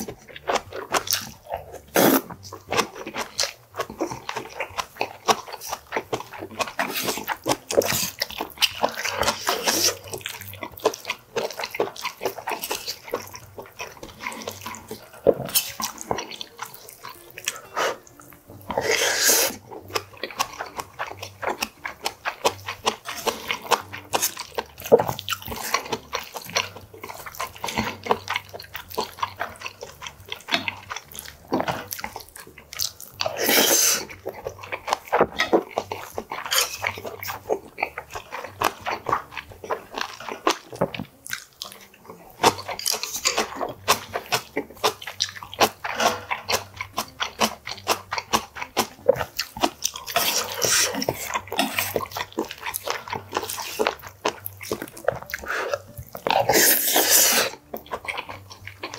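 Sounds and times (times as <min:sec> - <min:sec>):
wet chewing and lip smacking: 0:00.0 - 0:58.9.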